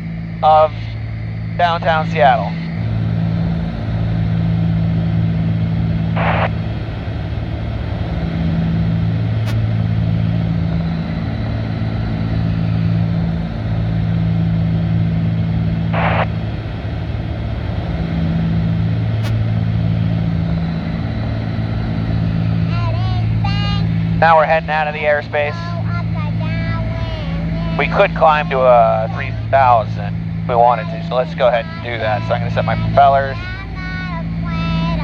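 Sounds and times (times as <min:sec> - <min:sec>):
aircraft cabin engine drone: 0:00.0 - 0:35.0.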